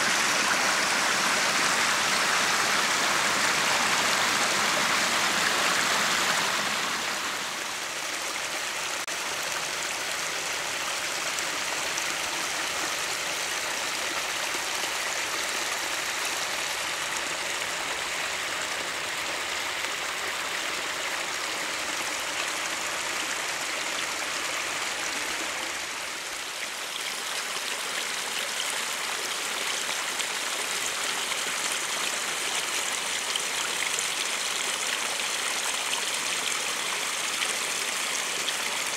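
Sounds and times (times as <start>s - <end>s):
brook trickling over stones: 0.0s - 38.9s.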